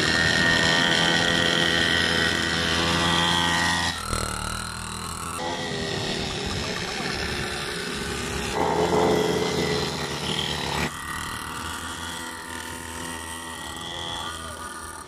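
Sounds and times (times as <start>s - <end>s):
small two-stroke engines buzzing: 0.0s - 15.0s.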